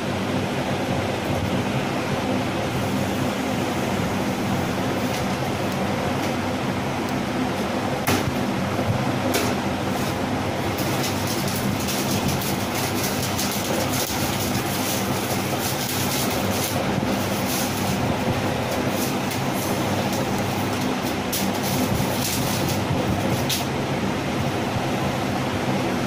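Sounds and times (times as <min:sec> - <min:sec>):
machine droning hum: 0:00.0 - 0:26.0.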